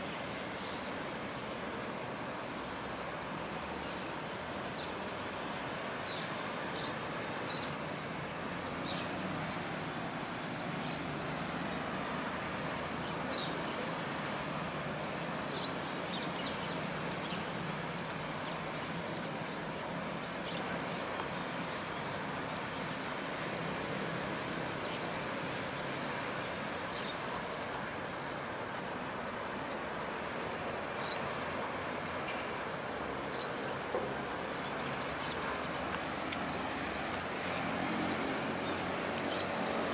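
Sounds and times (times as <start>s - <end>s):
steady rushing background noise: 0.0s - 39.9s.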